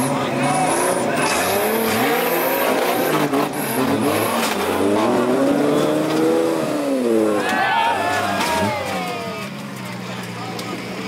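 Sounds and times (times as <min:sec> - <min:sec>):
buggy engine revving hard: 0:00.0 - 0:11.0.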